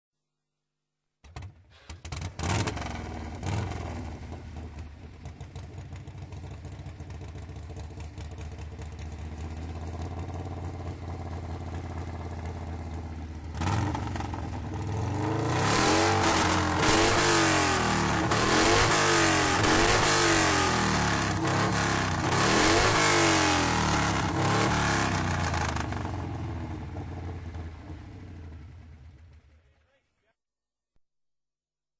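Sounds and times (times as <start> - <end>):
motorcycle engine idling and revving: 1.2 - 30.0.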